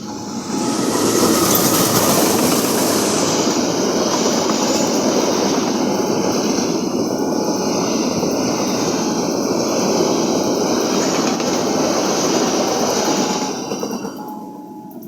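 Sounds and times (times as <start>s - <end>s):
train wheels rushing on rail: 0.0s - 14.3s.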